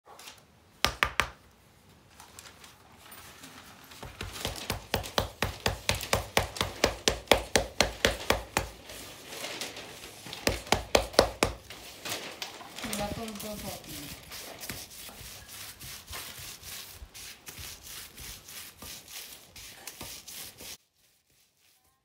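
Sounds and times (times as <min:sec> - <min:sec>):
palms patting dough: 0:00.8 - 0:01.5, 0:03.9 - 0:09.1, 0:09.8 - 0:22.0.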